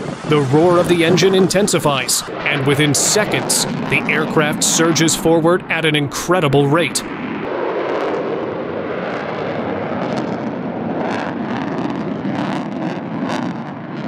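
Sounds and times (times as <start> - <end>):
fighter jet roaring past: 0.0 - 14.0.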